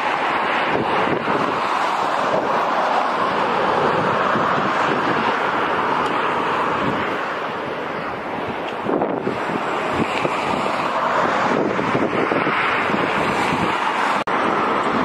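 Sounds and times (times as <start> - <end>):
car road noise: 0.0 - 15.0
wind on microphone: 0.0 - 15.0.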